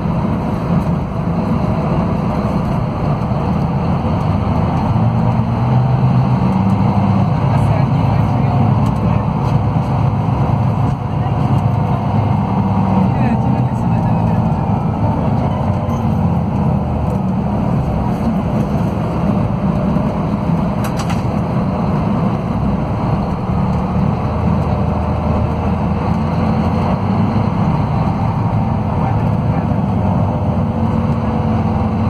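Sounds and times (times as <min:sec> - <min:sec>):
diesel coach engine running: 0:00.0 - 0:32.0.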